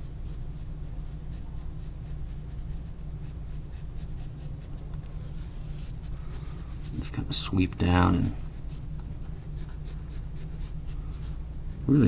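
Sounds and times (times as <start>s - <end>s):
pencil sketching on paper: 0.0s - 12.0s.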